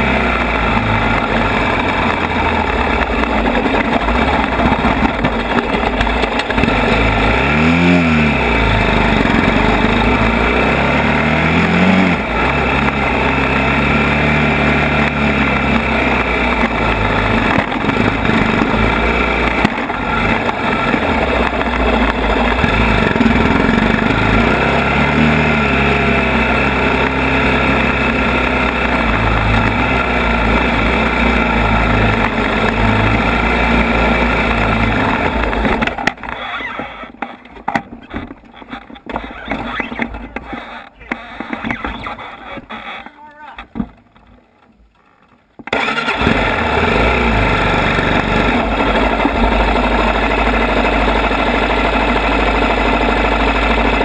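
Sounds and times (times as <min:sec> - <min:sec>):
quad engine revving: 0:00.0 - 0:37.4, 0:38.7 - 0:43.1, 0:45.6 - 0:54.0.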